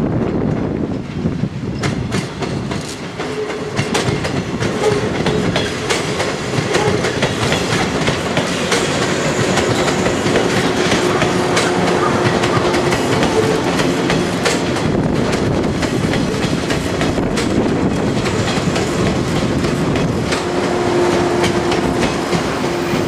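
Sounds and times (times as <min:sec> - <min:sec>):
train wheels clicking over rail joints: 0:00.1 - 0:23.0.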